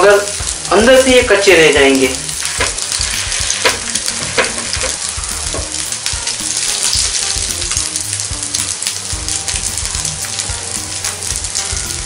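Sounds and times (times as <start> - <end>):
kebabs sizzling in oil: 0.0 - 12.0.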